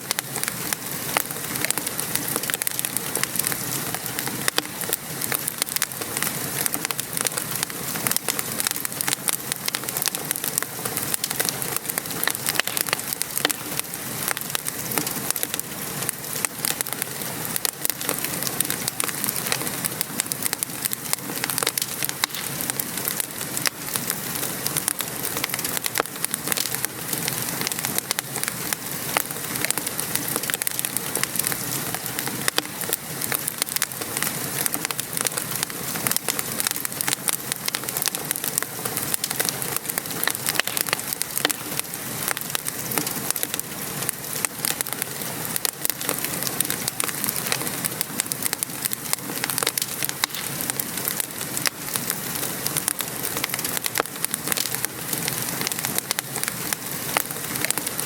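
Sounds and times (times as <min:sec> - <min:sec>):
steady rain falling: 0:00.0 - 0:58.0
wood fire crackling and popping: 0:00.0 - 0:58.0.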